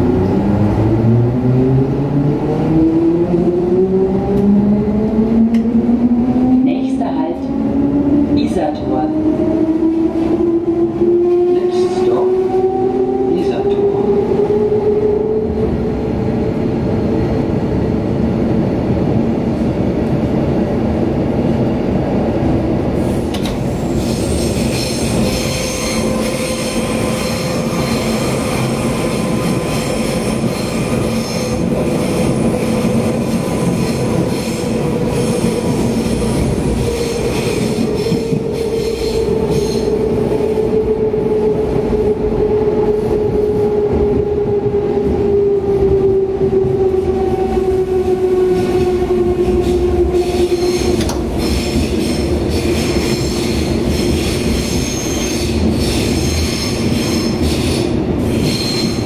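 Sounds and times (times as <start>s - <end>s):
electric train whine: 0.0s - 59.0s.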